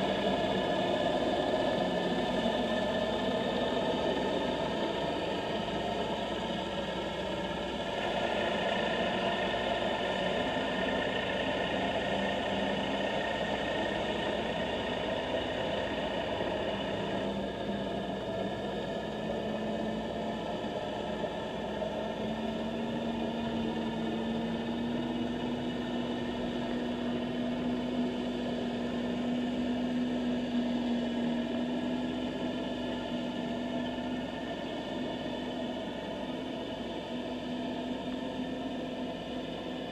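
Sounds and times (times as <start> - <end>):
muffled engine hum underwater: 0.0 - 39.9.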